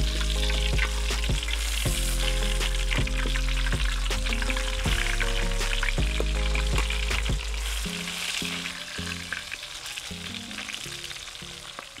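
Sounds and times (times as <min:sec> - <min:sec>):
background music: 0:00.0 - 0:12.0
fish sizzling in oil: 0:00.0 - 0:12.0.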